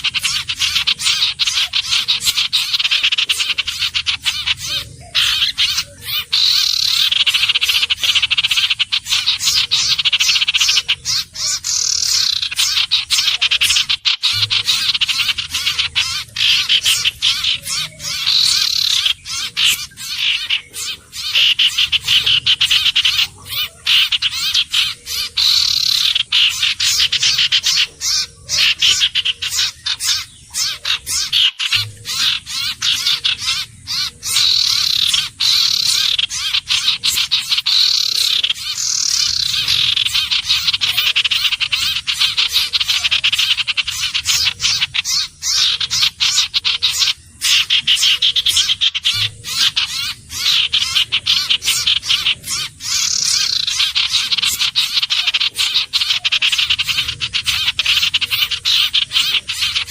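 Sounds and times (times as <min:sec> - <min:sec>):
high chattering bird trill: 0:00.0 - 0:59.9.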